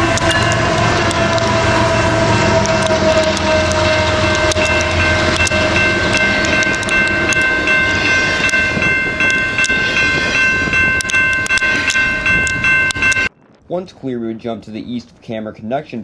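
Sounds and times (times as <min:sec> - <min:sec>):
train wheel clicks: 0:00.0 - 0:13.3
high ringing tones: 0:00.0 - 0:13.5
freight train rumbling: 0:00.0 - 0:14.8.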